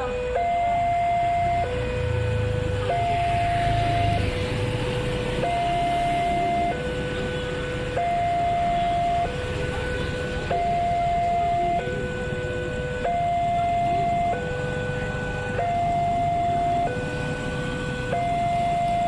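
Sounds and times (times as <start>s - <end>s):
two-tone crossing warning alarm: 0.0s - 19.0s.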